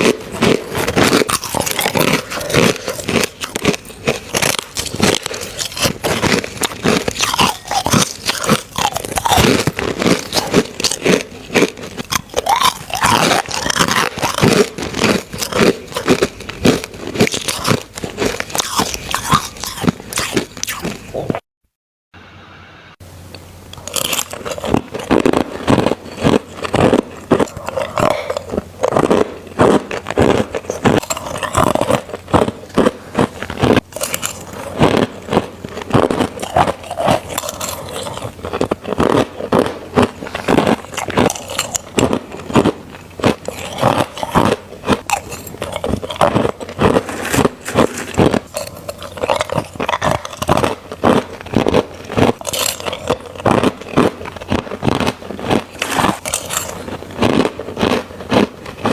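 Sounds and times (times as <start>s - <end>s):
crunching ice between teeth: 0.0s - 21.4s, 23.7s - 58.9s.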